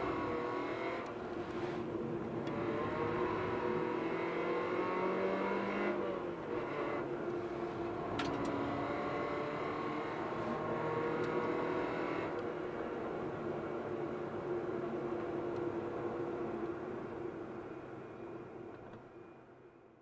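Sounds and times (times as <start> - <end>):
car engine from inside cabin: 0.0 - 19.1.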